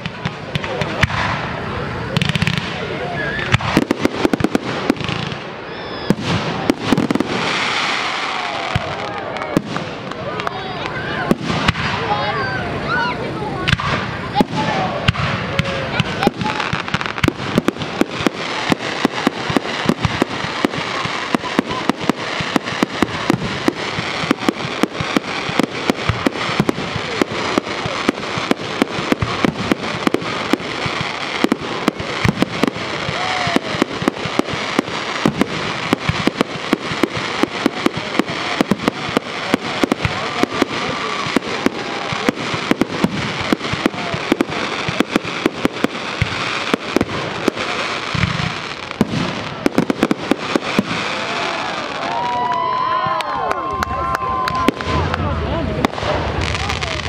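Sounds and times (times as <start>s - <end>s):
fireworks hiss: 0.0s - 52.8s, 54.6s - 57.0s
fireworks crackling: 0.0s - 57.0s.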